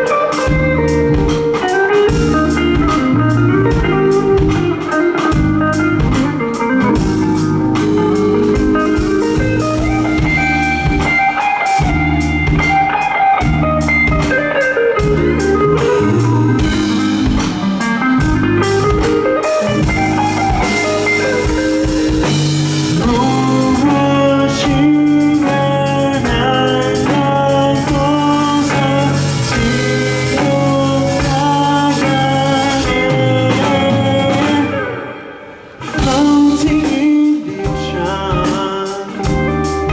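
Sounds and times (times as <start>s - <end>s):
bass guitar: 0.0s - 39.9s
drum kit: 0.0s - 39.9s
electric guitar lead: 0.0s - 39.9s
repeated guitar chords: 0.0s - 39.9s.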